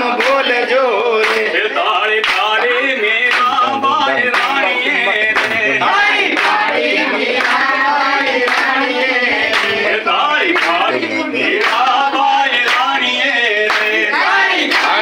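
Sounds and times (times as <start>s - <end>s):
group singing: 0.0s - 15.0s
hand-clapping in time: 0.0s - 15.0s.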